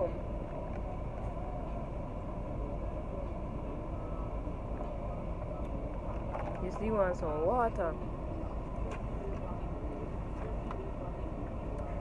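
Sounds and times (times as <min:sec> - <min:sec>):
van cabin engine rumble: 0:00.0 - 0:12.0.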